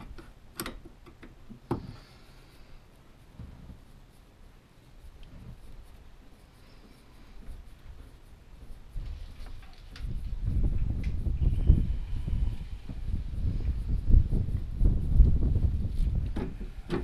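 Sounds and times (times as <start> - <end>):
faint rubbing and handling: 0.0 - 17.0.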